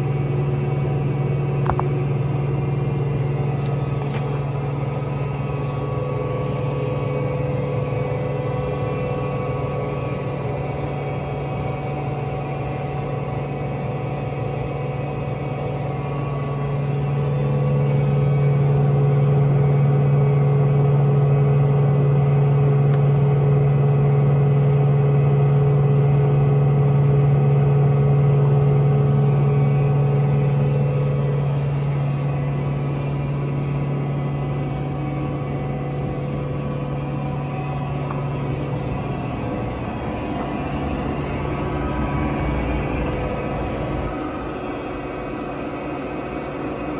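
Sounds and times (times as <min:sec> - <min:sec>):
lathe running with mechanical hum: 0:00.0 - 0:46.9.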